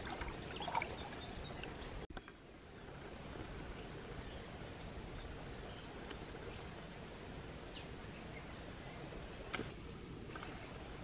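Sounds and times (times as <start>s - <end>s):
bird chirping: 0.1s - 3.1s, 3.8s - 11.0s
steady background hiss: 0.1s - 11.0s.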